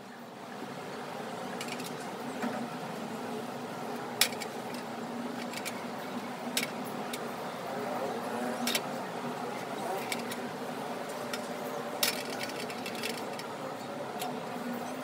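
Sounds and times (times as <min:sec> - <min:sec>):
water heating with steady hiss: 0:00.0 - 0:15.0.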